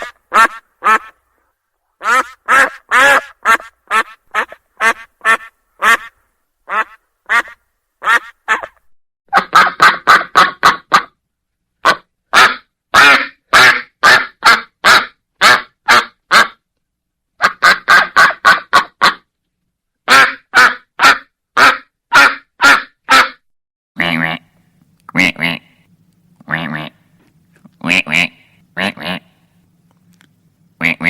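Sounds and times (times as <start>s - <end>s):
duck quacking: 0.0s - 1.2s, 2.0s - 11.2s, 11.8s - 16.6s, 17.4s - 19.2s, 20.1s - 23.4s, 24.0s - 27.0s, 27.8s - 29.4s, 30.8s - 31.0s.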